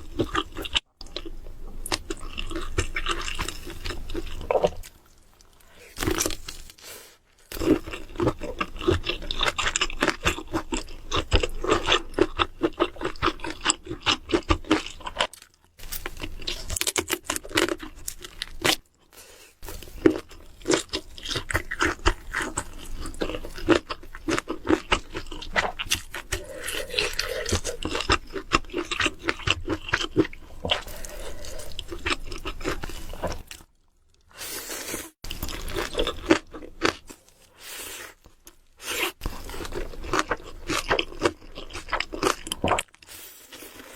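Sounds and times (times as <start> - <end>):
person chewing and crunching food: 0.0 - 43.9.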